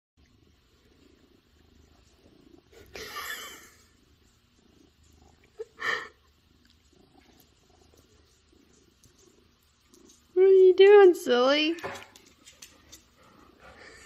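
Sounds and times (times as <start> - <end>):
cat purring: 0.2 - 14.0.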